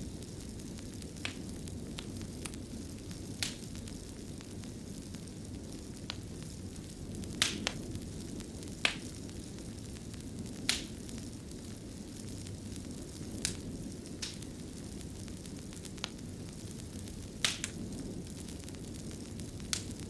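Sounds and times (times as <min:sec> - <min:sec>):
low rumble of flames: 0:00.0 - 0:20.0
wood fire pops and snaps: 0:00.1 - 0:20.0.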